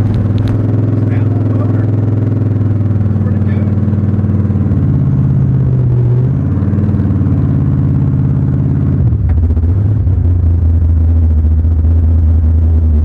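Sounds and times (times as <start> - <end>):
large engine running loudly: 0.0 - 13.0.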